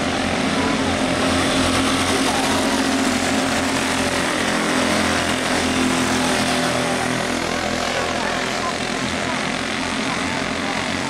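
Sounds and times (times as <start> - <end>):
racing kart engines buzzing: 0.0 - 11.0.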